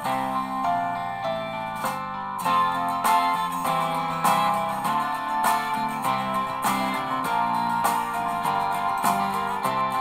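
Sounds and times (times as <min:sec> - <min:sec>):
strummed guitar music: 0:00.0 - 0:10.0.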